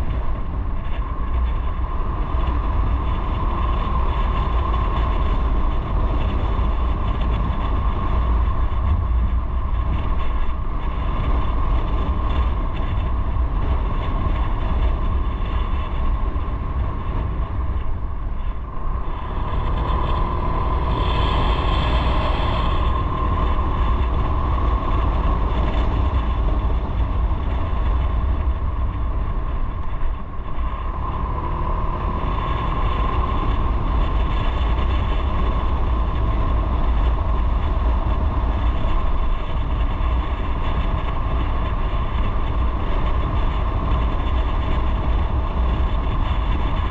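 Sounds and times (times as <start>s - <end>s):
motorcycle engine running: 0.0s - 46.9s
steady whine: 0.0s - 46.9s
wind rumble on microphone: 0.0s - 46.9s.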